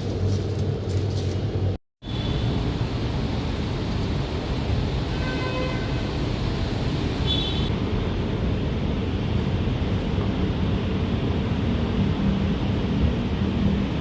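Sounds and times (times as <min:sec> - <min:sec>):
light-rail train rumbling on track: 0:00.0 - 0:14.0.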